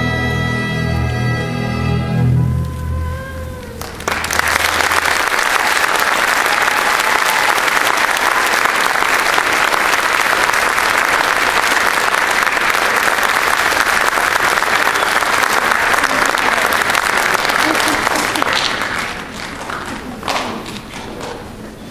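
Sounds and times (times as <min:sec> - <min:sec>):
audience applause: 0:03.7 - 0:21.4.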